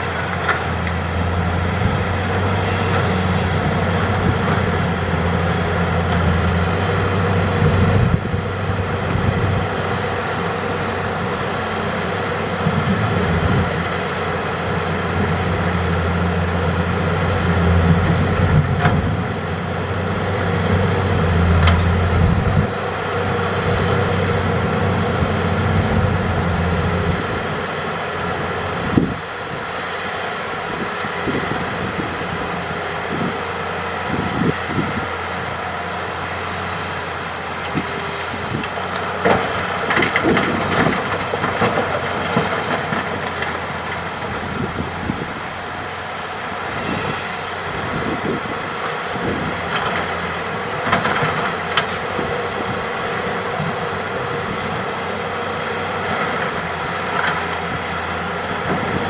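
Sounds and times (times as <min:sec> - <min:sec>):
excavator diesel engine working: 0:00.0 - 0:59.0.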